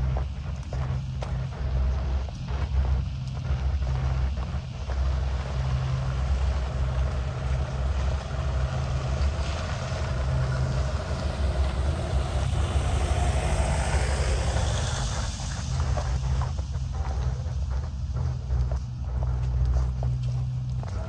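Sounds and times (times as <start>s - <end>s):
steady low rumble: 0.0s - 21.0s
van engine driving slowly: 0.0s - 21.0s.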